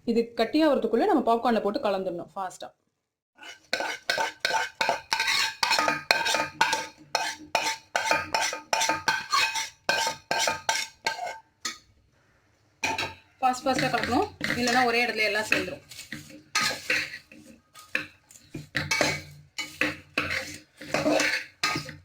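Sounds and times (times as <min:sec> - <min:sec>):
spoon scraping metal pot: 0:03.4 - 0:11.9, 0:12.8 - 0:22.0.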